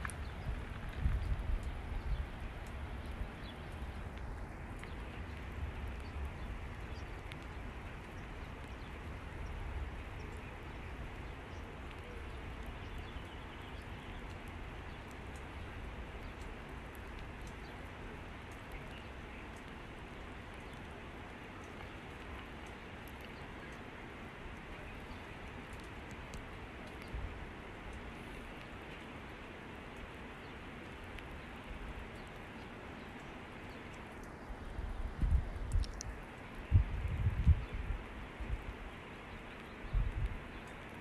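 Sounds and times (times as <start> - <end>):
rain: 0.0 - 41.0
running floodwater: 0.0 - 41.0.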